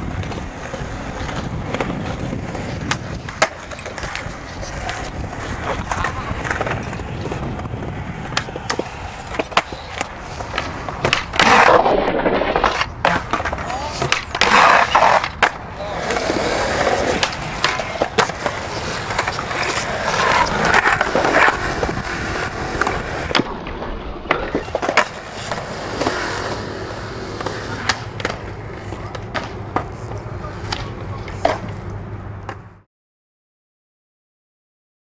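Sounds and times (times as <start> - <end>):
skateboard clacks: 0.0 - 32.8
skateboards grinding on concrete: 0.0 - 32.9
skateboards rolling on concrete: 0.0 - 32.9.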